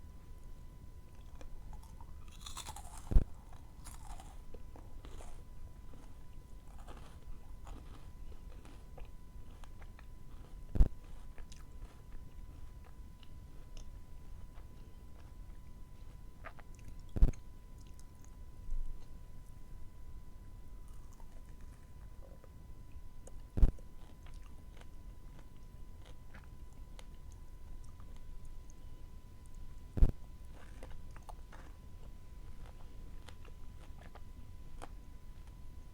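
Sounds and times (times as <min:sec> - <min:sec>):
chewing and crunching food: 0:01.0 - 0:19.8, 0:20.7 - 0:35.9.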